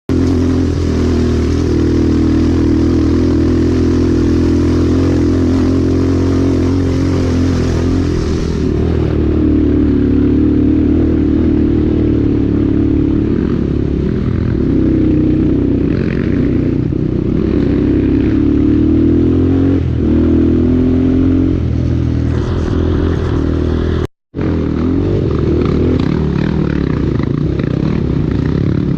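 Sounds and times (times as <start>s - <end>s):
dirt bike engine revving: 0.1s - 28.9s.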